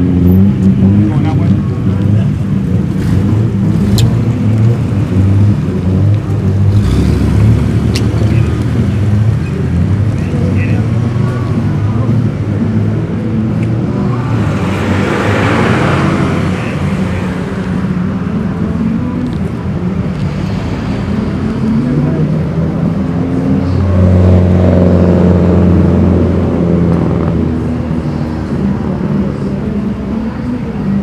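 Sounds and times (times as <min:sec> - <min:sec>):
car exhaust: 0:00.0 - 0:31.0
cars driving past: 0:00.0 - 0:31.0.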